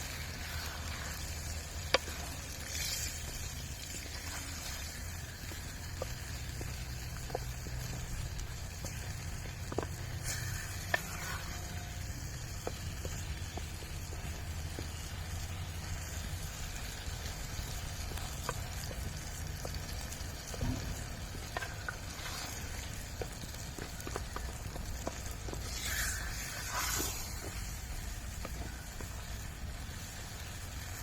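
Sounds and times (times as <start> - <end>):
fire crackles: 0.0 - 31.0
food sizzling: 0.0 - 31.0.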